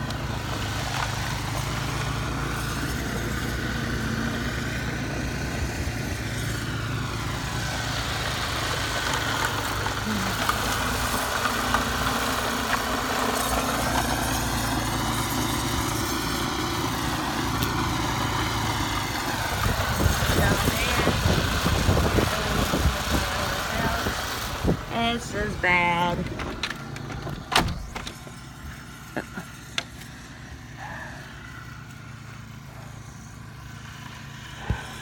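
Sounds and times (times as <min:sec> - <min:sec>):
snowblower engine running: 0:00.0 - 0:35.0.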